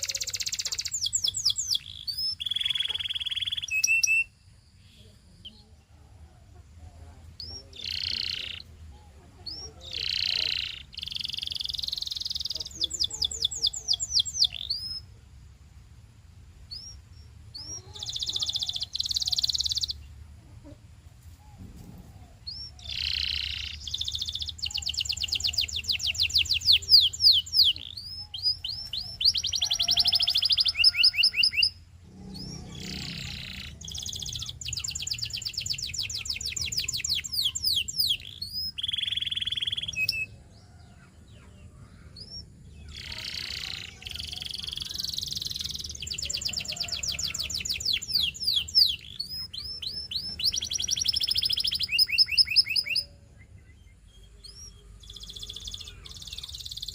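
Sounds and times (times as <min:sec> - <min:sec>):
canary singing trills: 0:00.0 - 0:15.2, 0:16.6 - 0:20.8, 0:21.5 - 0:56.9.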